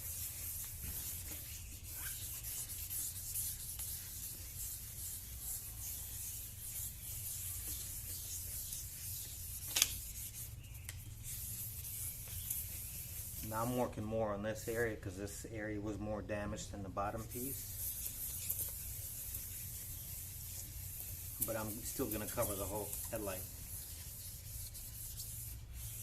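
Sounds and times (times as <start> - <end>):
sandpaper rubbing on plastic: 0.0 - 13.9, 17.2 - 26.0.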